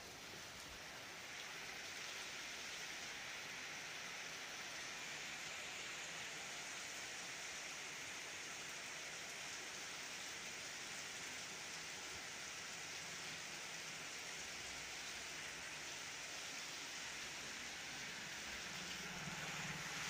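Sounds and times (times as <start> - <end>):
heavy rain on street: 0.0 - 20.0.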